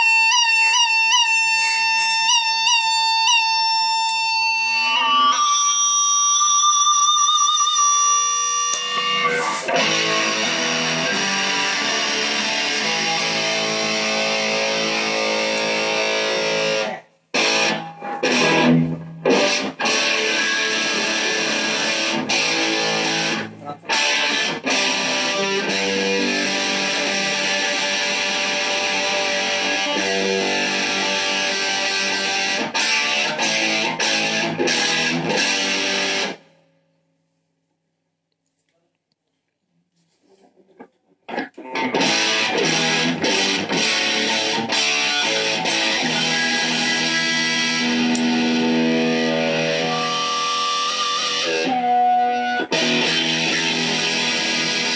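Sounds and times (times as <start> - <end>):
electric guitar lead playing: 0.0 - 36.6, 41.3 - 54.9.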